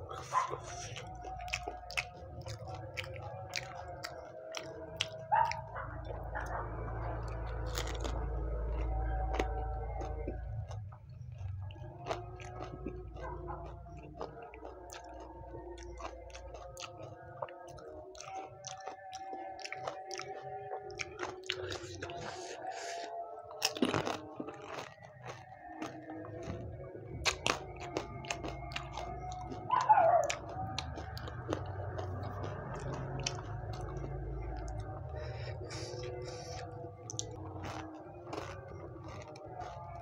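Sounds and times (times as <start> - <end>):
chewing and crunching: 0.0 - 40.0.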